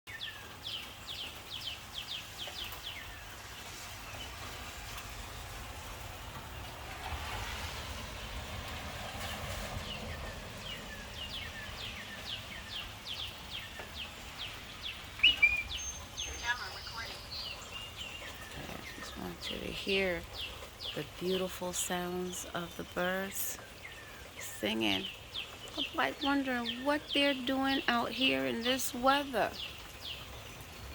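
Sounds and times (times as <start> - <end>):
songbird chirping: 0.1 - 7.6, 8.6 - 30.9
rain hiss: 0.1 - 30.9.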